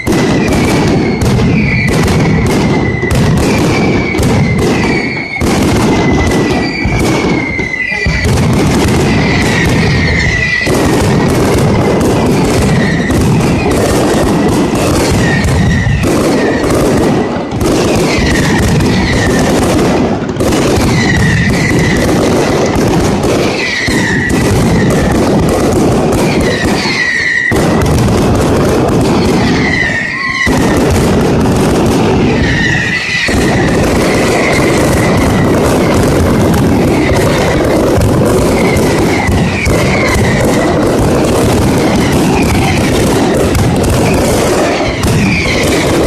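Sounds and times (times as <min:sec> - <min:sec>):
firecracker bangs: 0:00.0 - 0:46.0
whistling rockets: 0:00.0 - 0:46.0.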